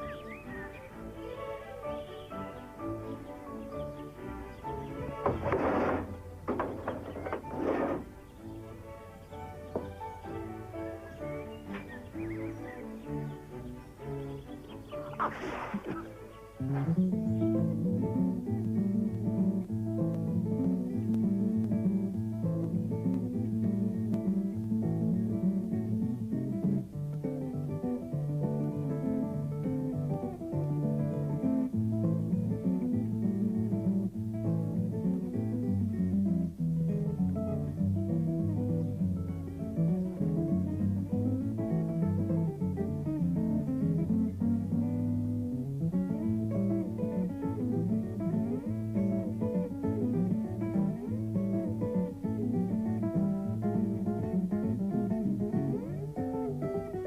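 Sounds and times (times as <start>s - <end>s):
plucked acoustic guitar music: 0.0s - 57.0s.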